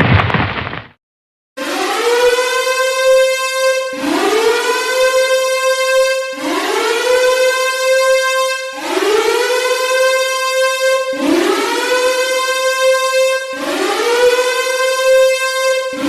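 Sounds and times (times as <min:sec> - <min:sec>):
siren wailing: 0:01.6 - 0:16.0.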